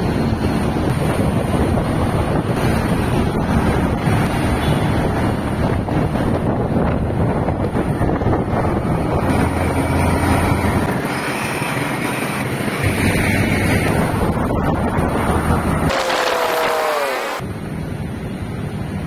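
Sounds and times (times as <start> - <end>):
low engine and road hum: 0.0 - 19.0
wind rushing over microphone: 0.0 - 19.0.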